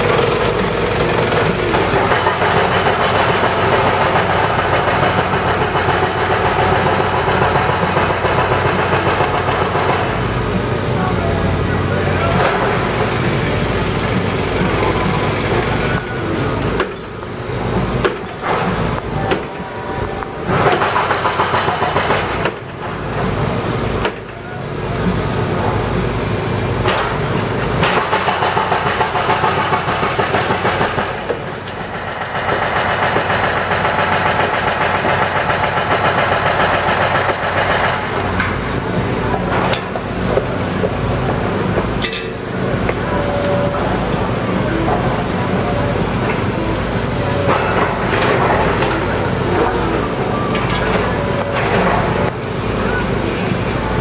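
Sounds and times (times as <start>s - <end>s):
heavy machinery engines running: 0.0s - 54.0s.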